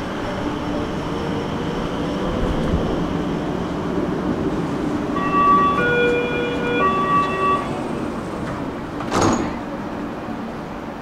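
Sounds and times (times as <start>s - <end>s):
metro train running: 0.0s - 11.0s.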